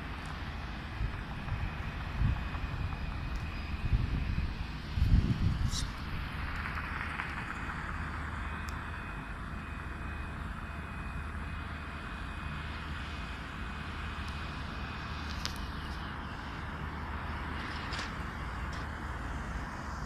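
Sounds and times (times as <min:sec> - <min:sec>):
distant road traffic: 0:00.0 - 0:20.0.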